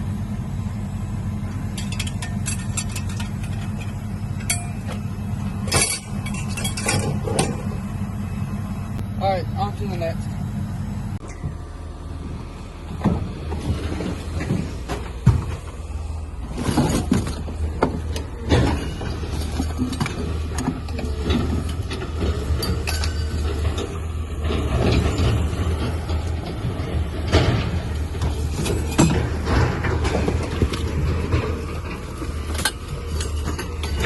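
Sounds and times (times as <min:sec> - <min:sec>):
clunks and rattles: 0:00.0 - 0:09.1, 0:11.1 - 0:34.0
truck engine and road rumble: 0:00.0 - 0:34.0.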